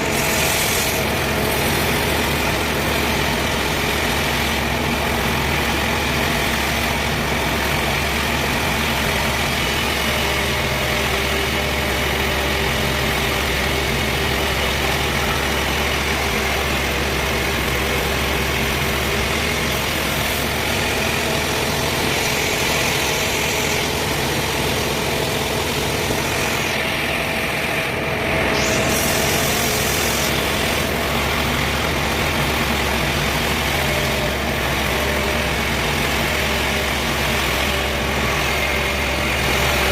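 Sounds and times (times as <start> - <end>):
high saw whine: 0.0 - 39.9
sawmill engine drone: 0.0 - 39.9.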